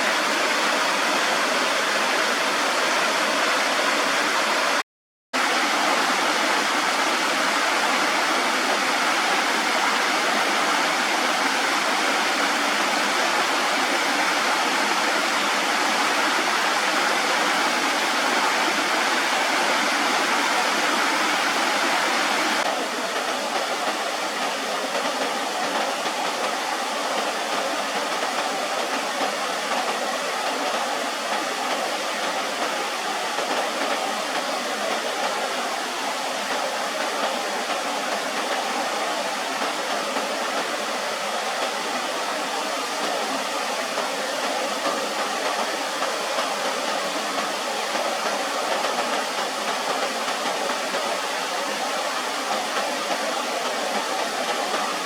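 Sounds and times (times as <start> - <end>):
running water rushing: 0.0 - 4.8, 5.4 - 55.0.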